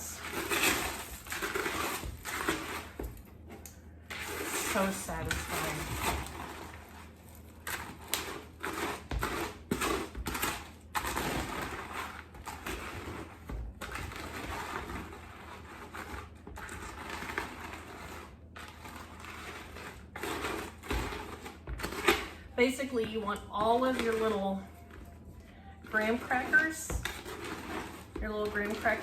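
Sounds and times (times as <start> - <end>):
cereal crunching while stirred: 0.0 - 29.0.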